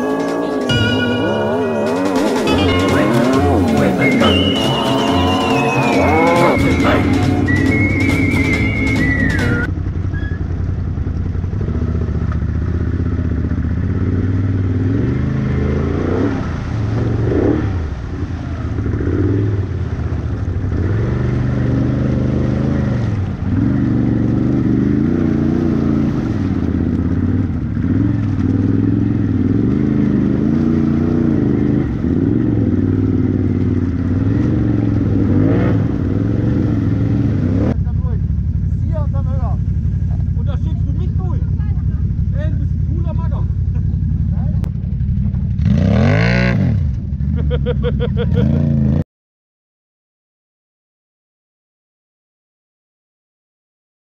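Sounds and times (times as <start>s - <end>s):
off-road vehicle engine revving: 0.0s - 49.0s.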